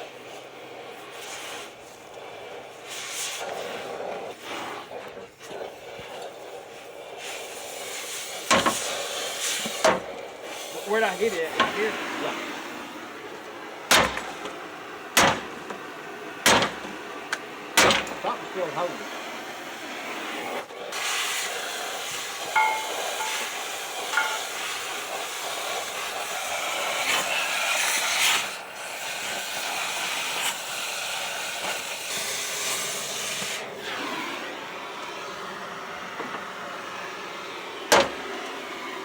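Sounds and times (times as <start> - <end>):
cutting torch hissing: 0.0 - 39.0.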